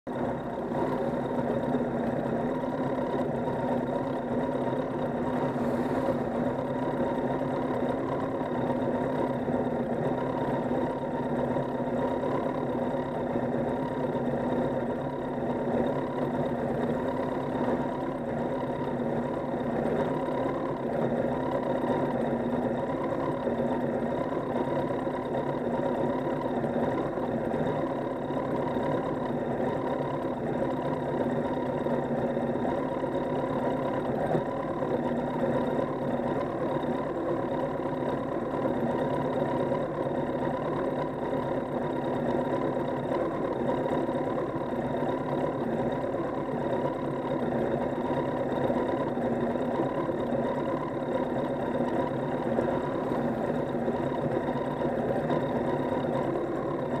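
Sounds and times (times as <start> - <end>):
motorcycle engine idling: 0.1 - 57.0.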